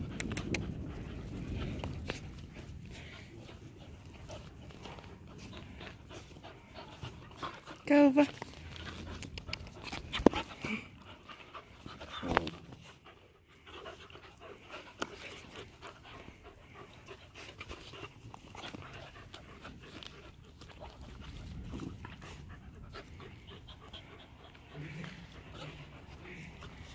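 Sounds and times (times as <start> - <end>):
dog panting: 0.0 - 26.9.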